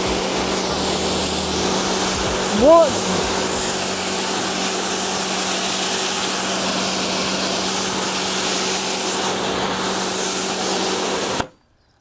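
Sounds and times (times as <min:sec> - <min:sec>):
pressure washer spraying: 0:00.0 - 0:11.5.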